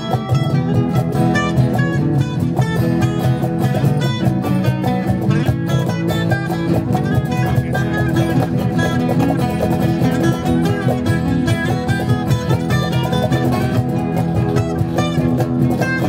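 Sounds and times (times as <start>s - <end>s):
acoustic guitars playing: 0.0s - 16.0s
cajon beat: 0.0s - 16.0s.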